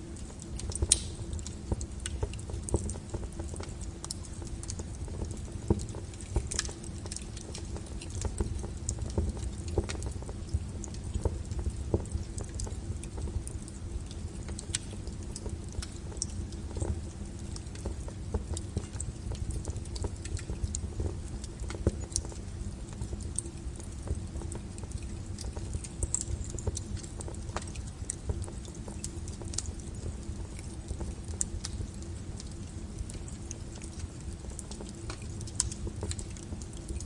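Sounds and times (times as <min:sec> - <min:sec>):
burning wood crackling: 0:00.0 - 0:37.0
low rumble of fire: 0:00.0 - 0:37.0.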